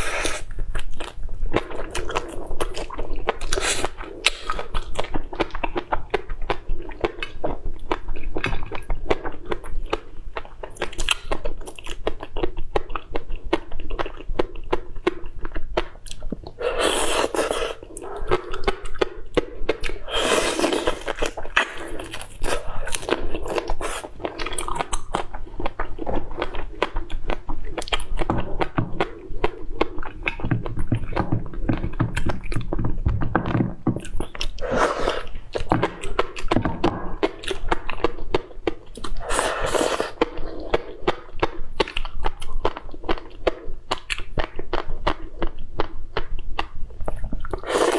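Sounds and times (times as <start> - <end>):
wet chewing and smacking: 0.0 - 47.9.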